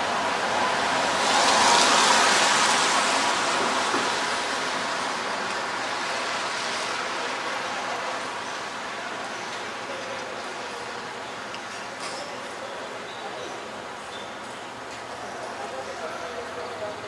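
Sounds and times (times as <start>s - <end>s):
passing street traffic: 0.0s - 17.0s.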